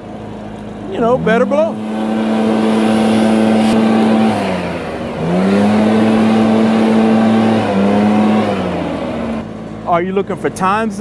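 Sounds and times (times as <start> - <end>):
leaf blower engine revving: 0.0 - 9.9.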